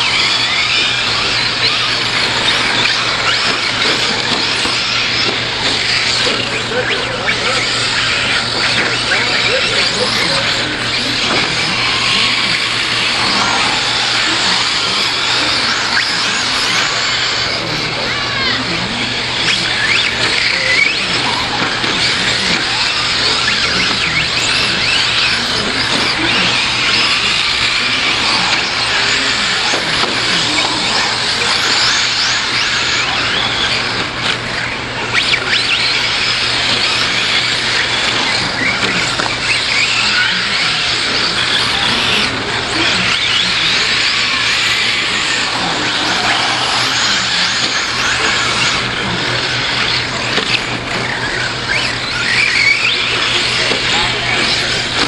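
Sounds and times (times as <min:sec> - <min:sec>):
radio-controlled car motors whining: 0:00.0 - 0:55.0
steady low hum: 0:00.0 - 0:55.0
tyres and track noise: 0:00.0 - 0:55.0.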